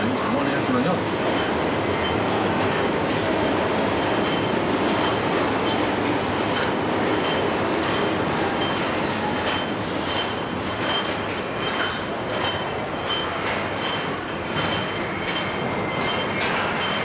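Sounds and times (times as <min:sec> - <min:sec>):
conveyors and machinery noise: 0:00.0 - 0:17.0
metallic clicks and clanks: 0:01.3 - 0:17.0.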